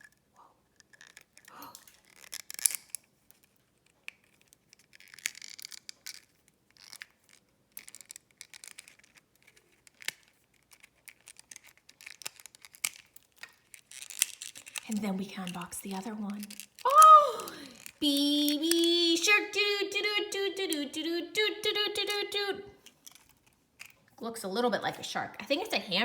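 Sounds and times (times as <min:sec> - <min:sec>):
plastic egg cracking open: 0:00.0 - 0:24.2
crinkly rustles: 0:00.8 - 0:21.1, 0:21.8 - 0:26.0.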